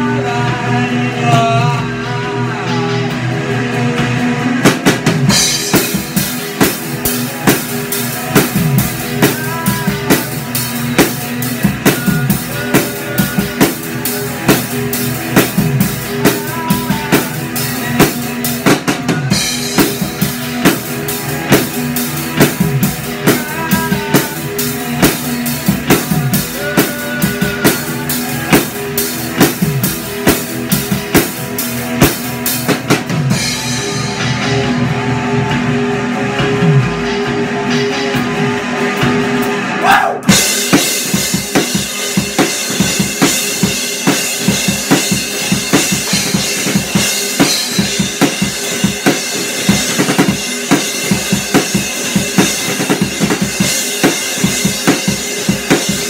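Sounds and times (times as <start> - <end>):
amplified guitar chords: 0.0 - 56.0
drum kit beat: 0.0 - 56.0.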